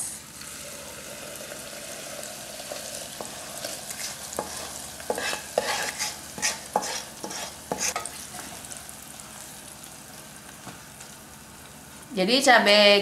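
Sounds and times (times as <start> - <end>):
hot oil sizzling: 0.0 - 12.1.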